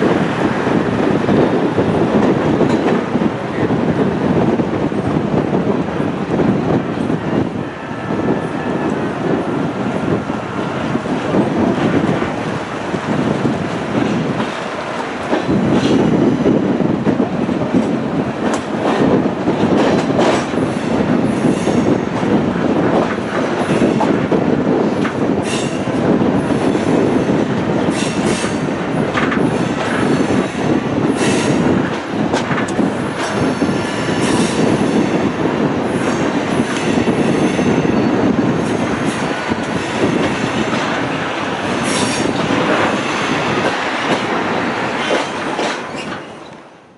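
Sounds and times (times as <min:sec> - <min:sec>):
rail clicks: 0:00.0 - 0:46.8
train wheels rumbling on rail: 0:00.0 - 0:46.9.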